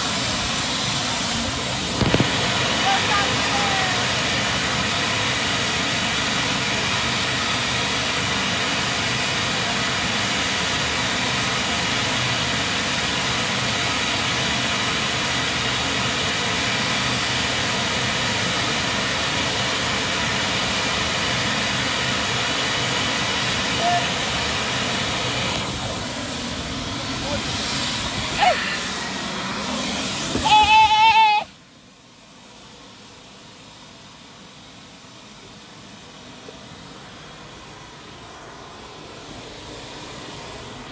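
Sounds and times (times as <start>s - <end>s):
loud rushing roar: 0.0s - 32.1s, 36.0s - 40.9s.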